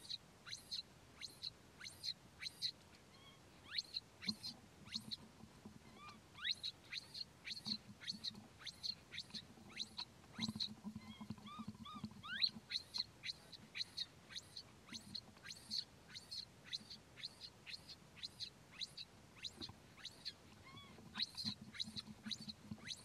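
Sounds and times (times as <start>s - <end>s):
baby monkey crying: 1.8s - 4.5s, 5.9s - 23.0s.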